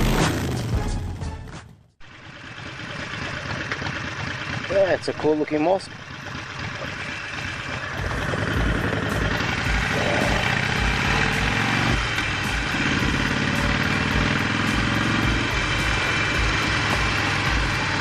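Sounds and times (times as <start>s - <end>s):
motorcycle engine idling: 2.0s - 18.0s.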